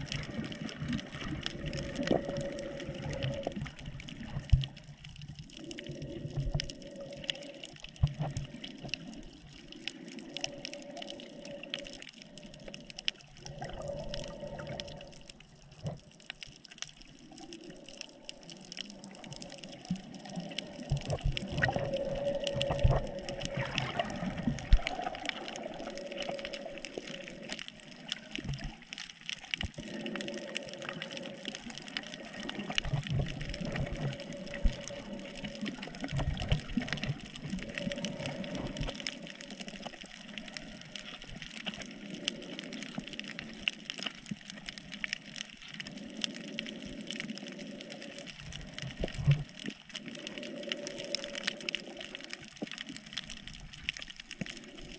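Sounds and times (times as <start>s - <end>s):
water sloshing and gurgling: 0.0s - 54.9s.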